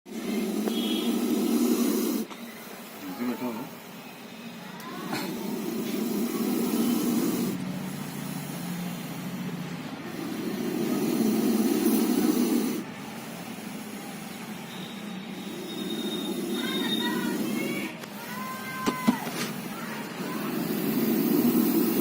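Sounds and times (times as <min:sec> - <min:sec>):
snake hissing: 0:00.1 - 0:04.0, 0:04.6 - 0:22.0.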